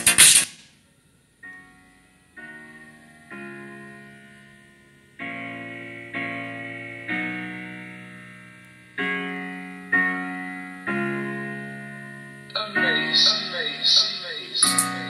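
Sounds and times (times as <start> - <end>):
piano chords: 1.4 - 15.0.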